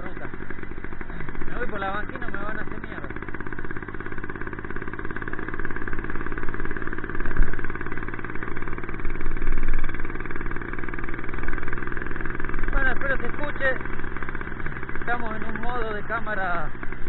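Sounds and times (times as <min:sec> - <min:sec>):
small engine pulsing: 0:00.0 - 0:17.0.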